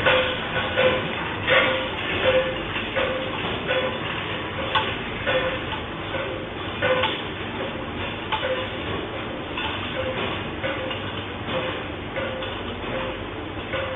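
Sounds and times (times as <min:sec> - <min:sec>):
rhythmic knocking clatter: 0:00.0 - 0:13.9.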